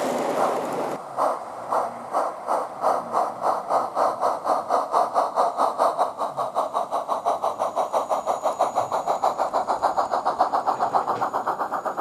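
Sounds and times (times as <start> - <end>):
steam locomotive exhaust chuffing: 0.0 - 12.0.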